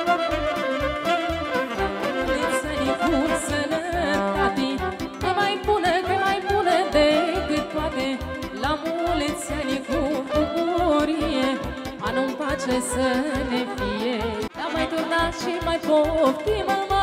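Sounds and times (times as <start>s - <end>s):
fiddle playing folk melody: 0.0s - 15.9s.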